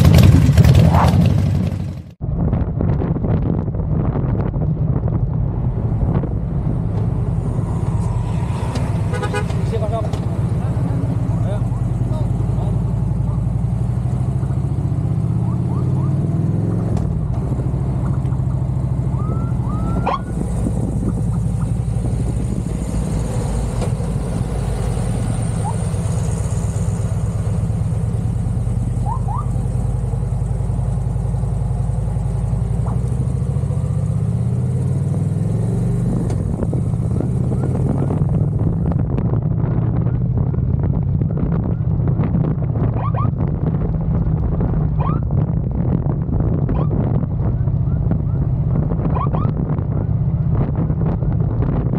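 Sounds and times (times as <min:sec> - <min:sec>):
motorcycle engine at speed: 0:00.0 - 0:51.9.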